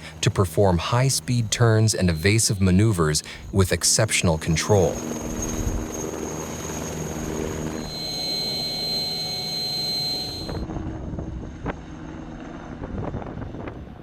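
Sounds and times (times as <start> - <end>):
high turbine whine: 0.0 - 13.8
helicopter engine hum: 0.0 - 14.0.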